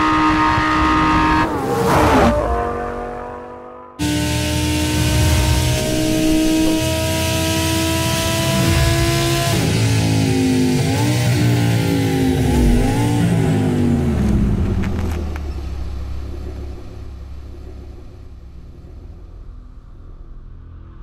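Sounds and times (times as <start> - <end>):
sports car engine revving: 0.0 - 19.8.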